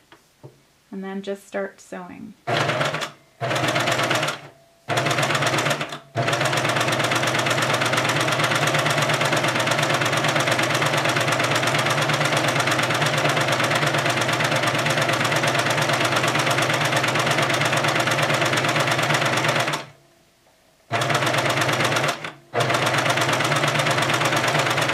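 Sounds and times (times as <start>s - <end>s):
sewing machine stitching: 2.5s - 20.0s, 20.9s - 24.9s.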